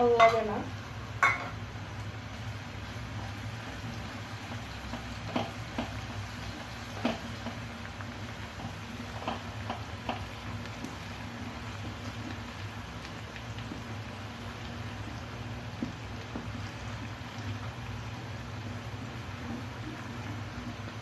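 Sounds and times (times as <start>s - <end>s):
spices sizzling in hot oil: 0.0s - 21.0s.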